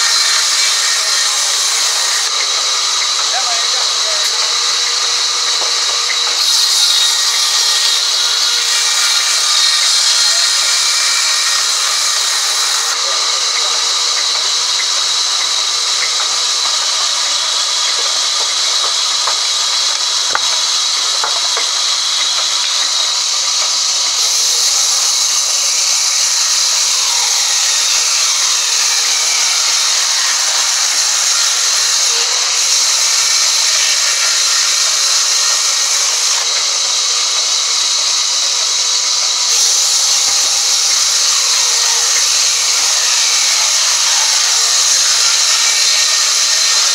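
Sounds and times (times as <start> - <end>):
band saw cutting wood: 0.0 - 46.9.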